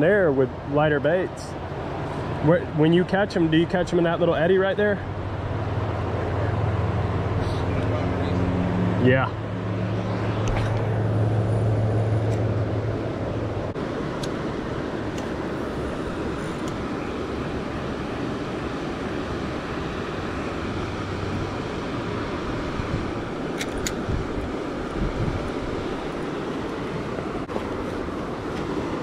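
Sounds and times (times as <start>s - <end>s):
water rushing over rapids: 5.2s - 29.0s.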